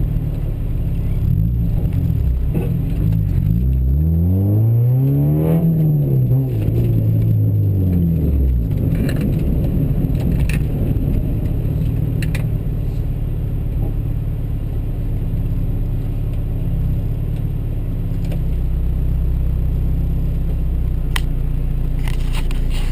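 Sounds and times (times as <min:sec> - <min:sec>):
vehicle engine idling: 0:00.0 - 0:04.0, 0:06.6 - 0:22.9.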